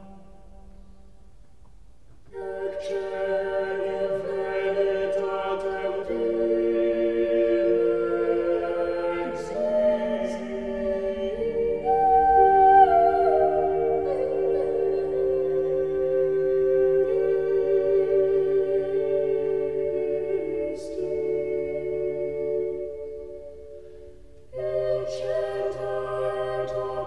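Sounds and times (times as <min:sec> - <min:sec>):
choir singing long chords: 0:00.0 - 0:01.0, 0:02.3 - 0:27.0.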